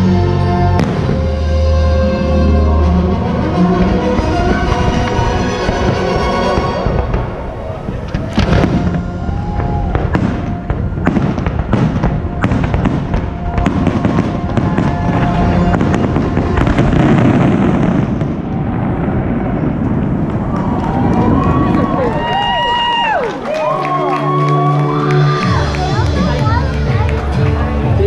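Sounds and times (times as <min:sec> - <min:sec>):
fireworks bangs and crackling: 0:00.6 - 0:23.7, 0:25.2 - 0:28.0.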